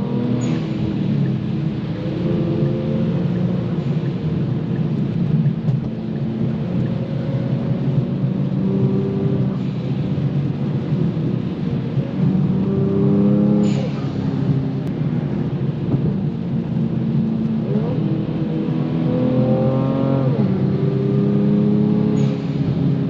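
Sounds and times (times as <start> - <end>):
car engine drone in cabin: 0.0 - 23.0.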